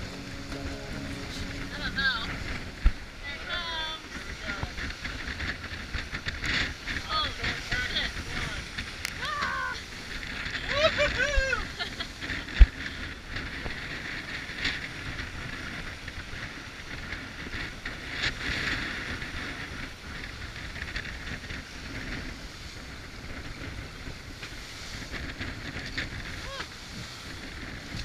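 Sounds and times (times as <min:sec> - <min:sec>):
water rushing along hull: 0:00.0 - 0:28.0
wind buffeting microphone: 0:00.0 - 0:28.0.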